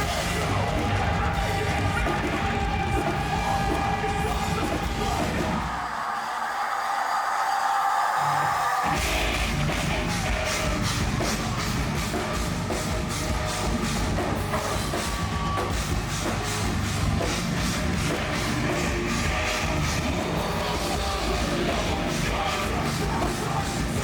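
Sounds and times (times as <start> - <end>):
heavy metal band playing live: 0.0 - 6.1, 8.3 - 24.0
heavy drums: 0.0 - 6.7, 8.3 - 24.0.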